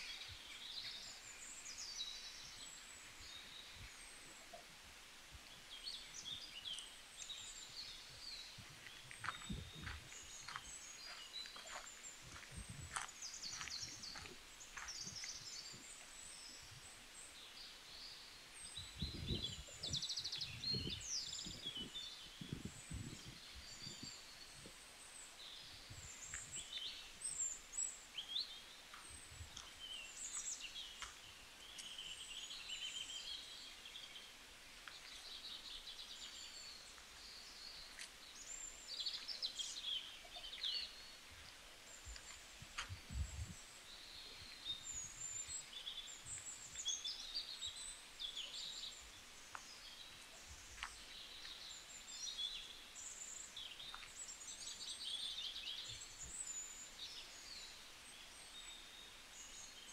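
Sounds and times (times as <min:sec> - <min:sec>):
songbirds chirping and singing: 0:05.5 - 0:59.9.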